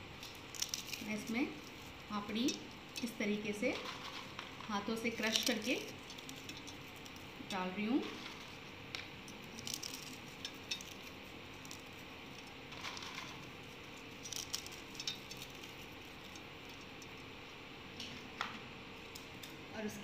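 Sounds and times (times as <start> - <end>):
crisps crushed by hand crackling: 0.0 - 3.2, 3.8 - 7.4, 8.0 - 17.2
faint steady hum: 0.0 - 20.0.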